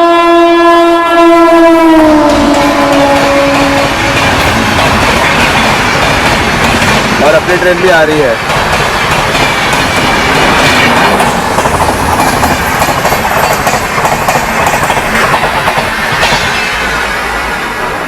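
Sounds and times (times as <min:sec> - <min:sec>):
train wheels clattering over rails: 0:02.2 - 0:18.0.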